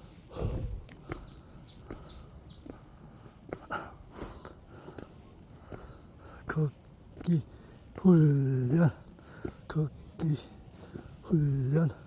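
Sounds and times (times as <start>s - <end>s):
faint footsteps on path: 0.0s - 12.0s.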